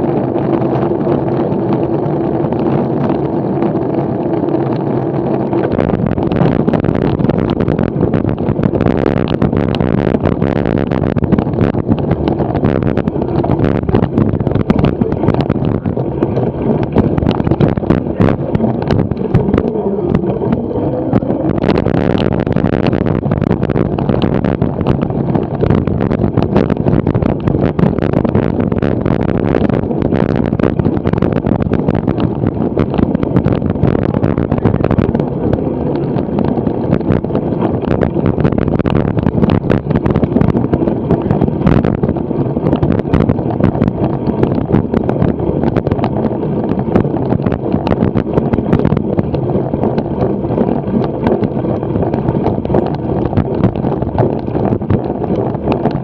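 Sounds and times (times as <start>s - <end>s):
bike rattling over bumpy grass: 0.0s - 56.0s
wind buffeting microphone: 0.0s - 56.0s.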